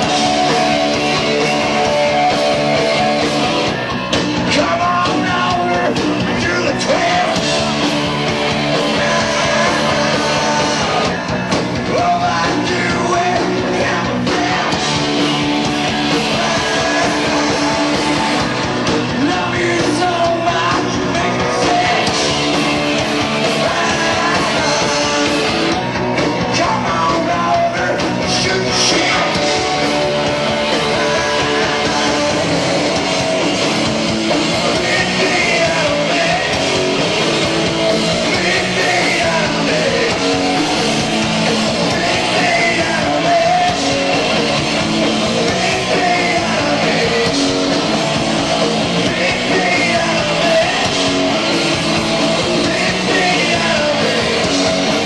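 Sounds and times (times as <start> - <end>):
live rock band playing: 0.0 - 55.0
shouted singing: 0.0 - 55.0.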